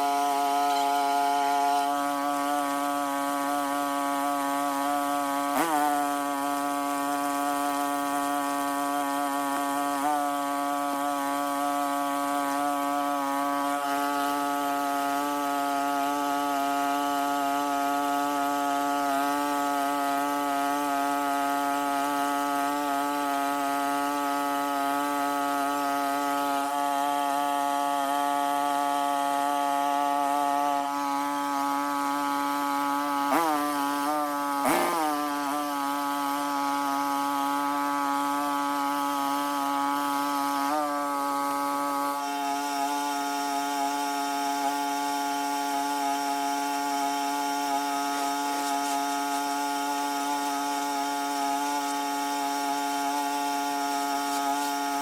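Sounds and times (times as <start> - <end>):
small two-stroke engine running: 0.0 - 55.0.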